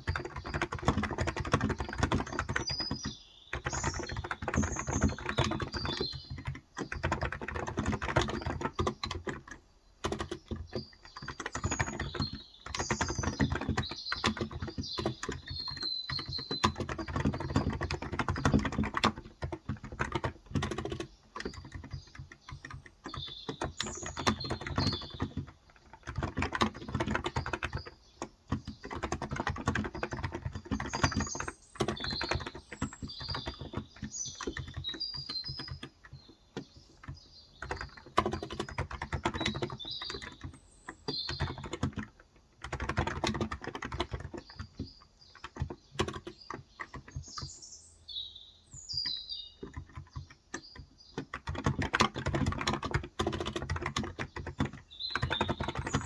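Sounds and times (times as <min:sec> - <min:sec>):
fast keyboard typing: 0:00.0 - 0:47.6, 0:48.7 - 0:56.0
birds chirping: 0:00.0 - 0:56.0.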